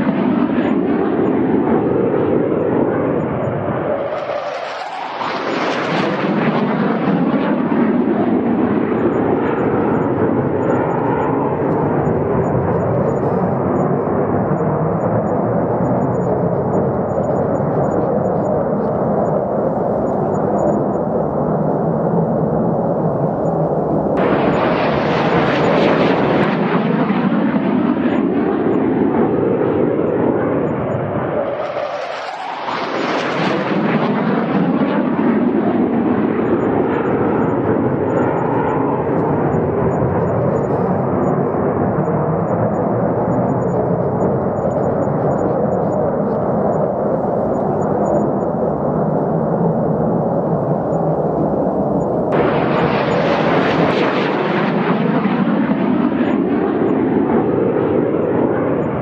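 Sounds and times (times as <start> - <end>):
fighter jet engine roar: 0.0 - 59.0.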